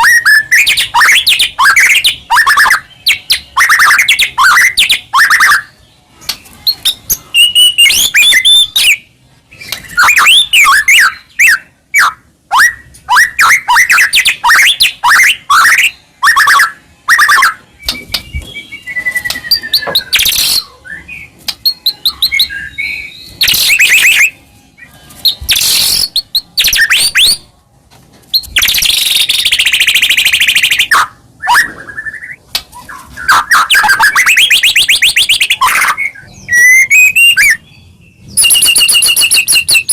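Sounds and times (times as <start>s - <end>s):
songbird singing: 0.0s - 27.5s, 28.3s - 39.9s.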